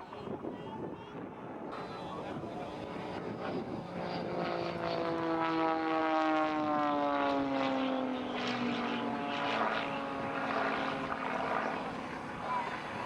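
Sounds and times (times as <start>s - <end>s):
propeller aircraft flying past: 1.8s - 13.0s.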